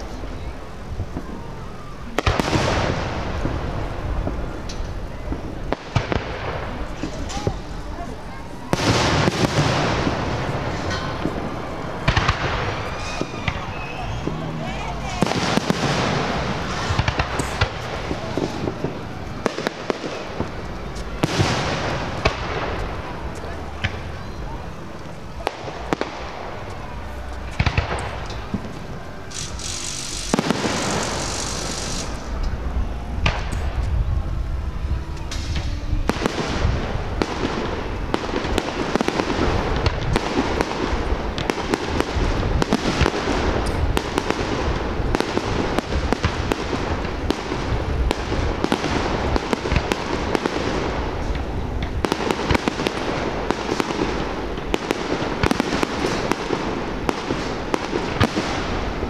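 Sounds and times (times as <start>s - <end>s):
fireworks bangs: 0.0s - 59.0s
fireworks hissing crackle: 0.0s - 59.0s.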